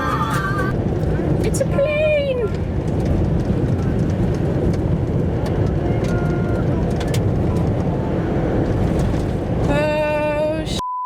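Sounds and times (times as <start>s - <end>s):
low vehicle rumble: 0.0s - 10.8s.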